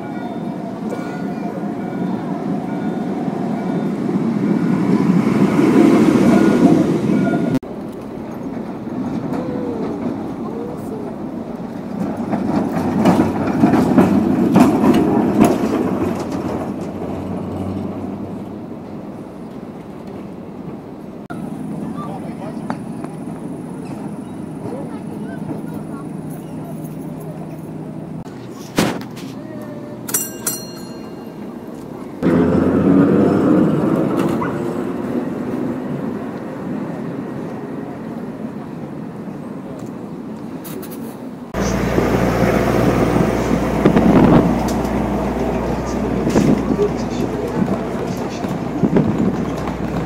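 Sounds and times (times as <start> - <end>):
street noise: 0.0 - 50.0
tram wheels rumbling on rails: 0.0 - 50.0.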